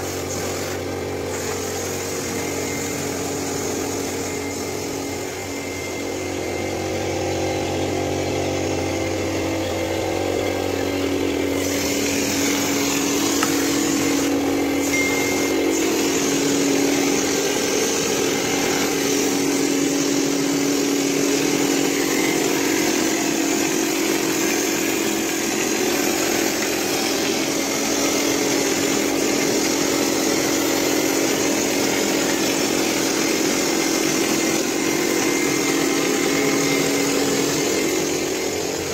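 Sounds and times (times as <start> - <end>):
machine hum: 0.0 - 38.9
spray gun air hiss: 0.0 - 38.9.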